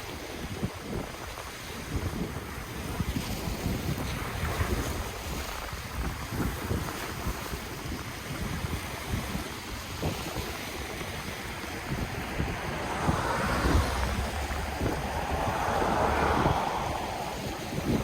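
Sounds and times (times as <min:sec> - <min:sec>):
ocean waves washing in: 0:00.0 - 0:18.0
wind gusting on microphone: 0:00.0 - 0:18.0.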